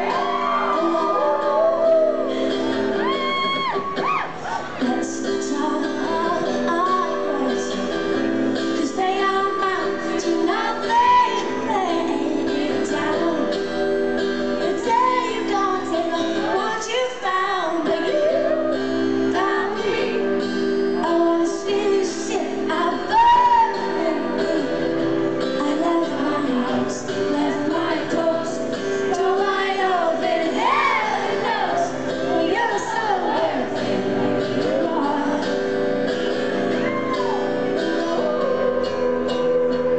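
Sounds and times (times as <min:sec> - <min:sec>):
woman singing: 0:00.0 - 0:02.5, 0:04.8 - 0:13.8, 0:14.6 - 0:35.7, 0:37.1 - 0:39.9
live pop band: 0:00.0 - 0:39.9.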